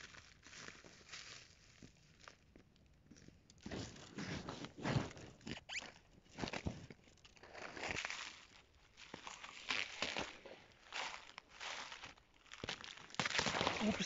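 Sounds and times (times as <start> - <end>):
crunching frosted leaves and grass: 0.0 - 14.0.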